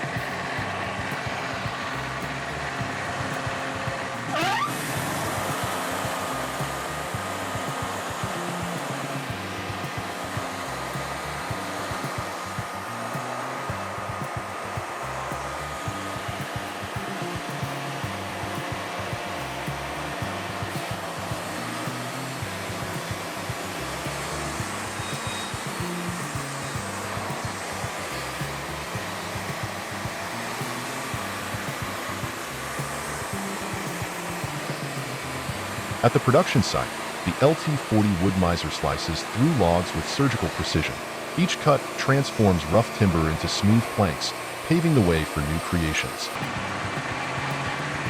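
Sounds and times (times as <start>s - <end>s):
background music with bass: 0.0s - 48.0s
steady machine blower noise: 0.0s - 48.0s
thin steady whine: 0.0s - 48.0s.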